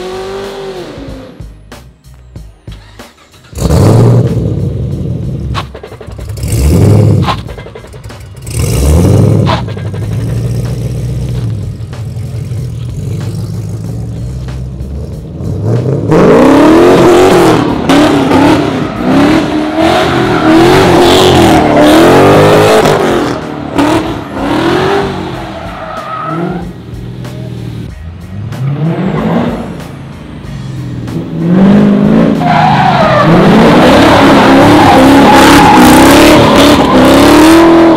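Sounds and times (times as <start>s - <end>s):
car engine revving: 0.0s - 1.9s, 2.5s - 37.9s.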